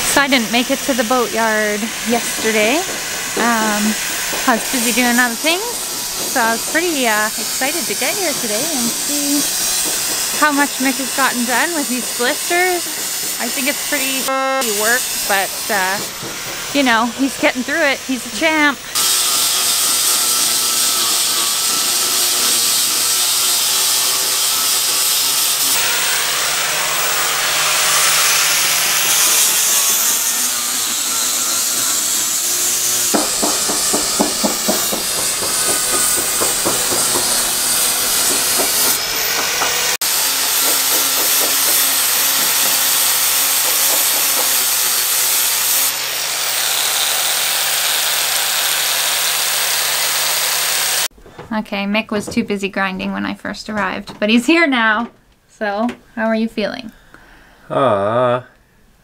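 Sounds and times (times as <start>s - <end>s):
angle grinder sanding fibreglass: 0.0s - 51.1s.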